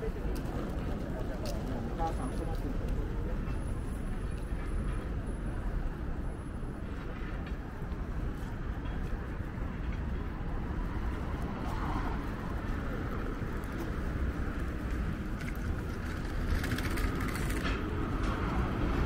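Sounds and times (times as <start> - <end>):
faint voices of passers-by: 0.0 - 19.0
traffic noise: 0.0 - 19.0.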